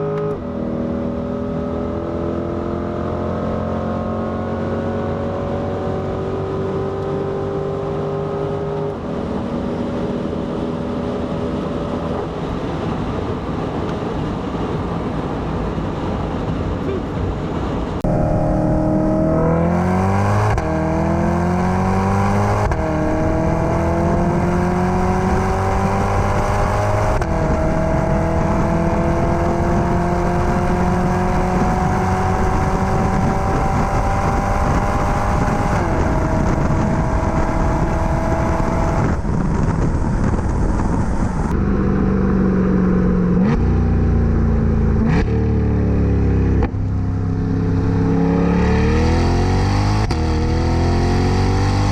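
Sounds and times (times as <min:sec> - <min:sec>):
sports car engine revving: 0:00.0 - 0:12.8, 0:18.0 - 0:41.0, 0:41.6 - 0:51.9.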